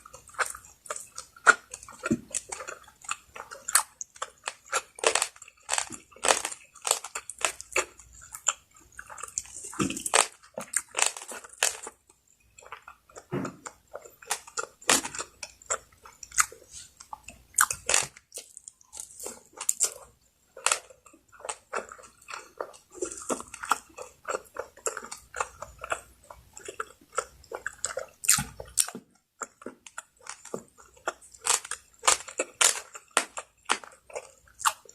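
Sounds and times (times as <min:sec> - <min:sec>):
chewing and mouth clicks: 0:00.0 - 0:34.9.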